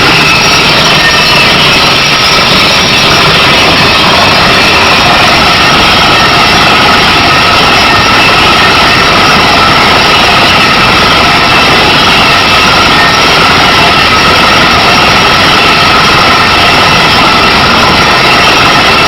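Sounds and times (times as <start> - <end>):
drilling rig running: 0.0 - 19.0.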